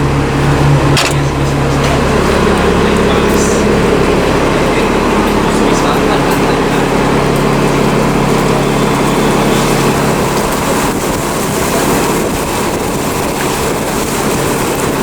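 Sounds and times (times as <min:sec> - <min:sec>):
engine running close by: 0:00.0 - 0:15.0
traffic rumble: 0:00.0 - 0:15.0.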